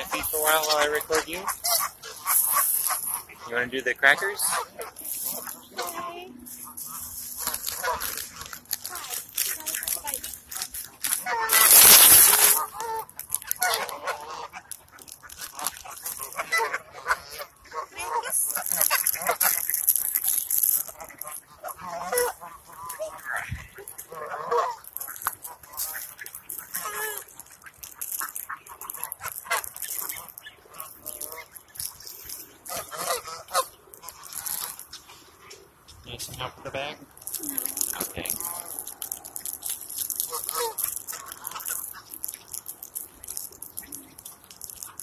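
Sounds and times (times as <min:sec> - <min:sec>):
geese honking: 0:00.0 - 0:45.0.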